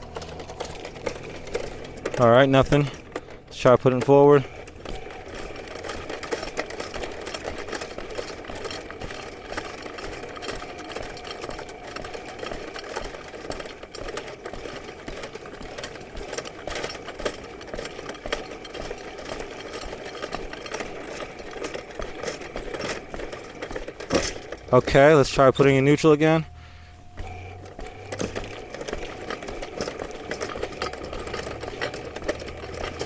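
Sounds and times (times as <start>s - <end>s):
drain snake motor: 0.0s - 33.0s
spinning cable rattling: 0.0s - 33.0s.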